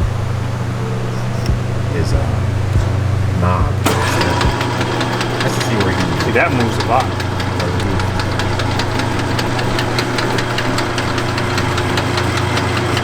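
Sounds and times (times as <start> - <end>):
fast even ticking: 0.0 - 13.0
metal lathe humming: 0.0 - 13.0.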